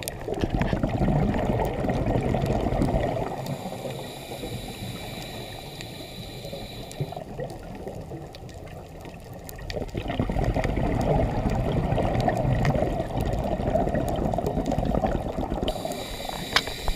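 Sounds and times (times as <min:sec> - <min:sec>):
underwater diver bubbles gurgling: 0:00.0 - 0:16.9.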